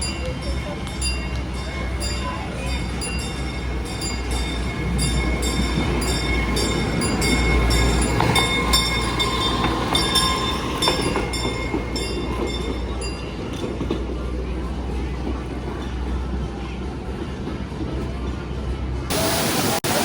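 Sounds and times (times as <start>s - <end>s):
roller coaster rumbling on track: 0.0s - 20.0s.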